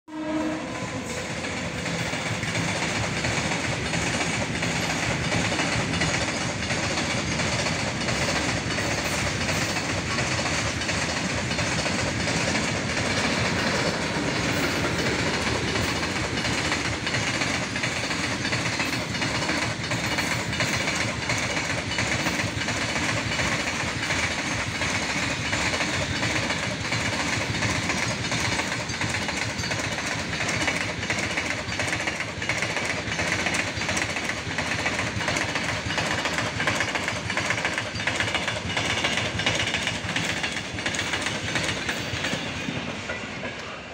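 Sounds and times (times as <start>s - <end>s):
train wheels clattering over rails: 0.1s - 43.8s.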